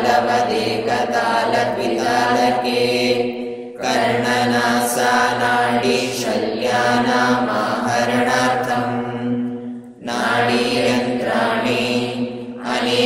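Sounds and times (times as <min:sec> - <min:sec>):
person chanting verses: 0:00.0 - 0:13.0.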